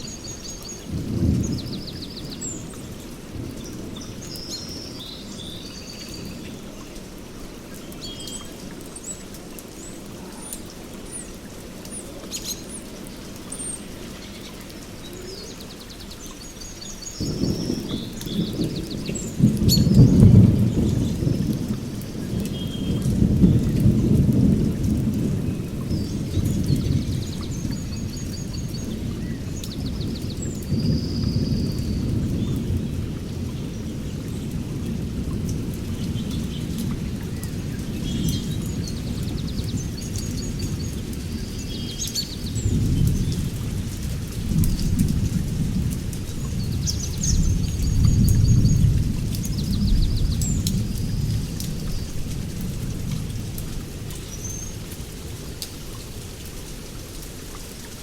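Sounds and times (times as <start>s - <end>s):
low rumble of thunder: 0.0s - 6.8s, 15.0s - 56.8s
small birds chirping and trilling: 0.0s - 24.3s, 25.2s - 44.0s, 46.2s - 53.4s.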